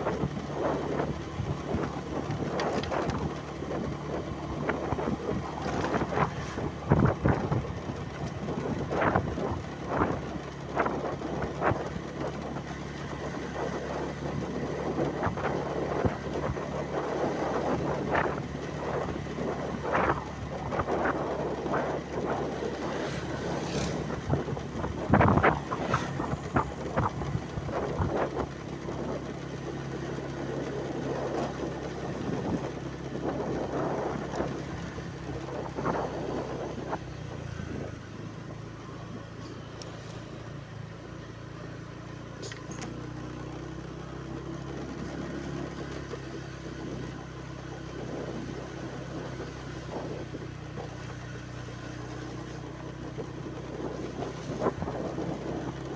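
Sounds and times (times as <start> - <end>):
engine humming: 0.0 - 55.9.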